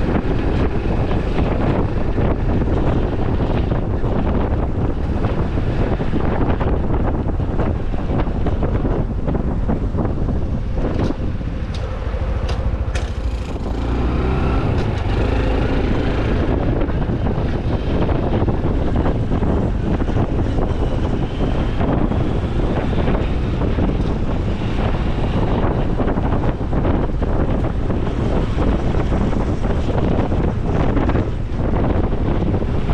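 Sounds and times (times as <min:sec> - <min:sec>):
motorcycle engine accelerating: 0:00.0 - 0:32.9
wind rush on microphone: 0:00.0 - 0:32.9.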